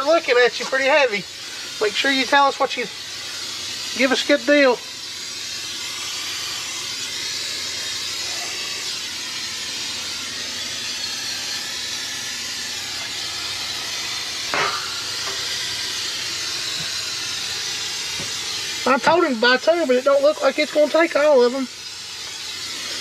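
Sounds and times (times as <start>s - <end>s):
aerosol can spraying: 0.0s - 23.0s.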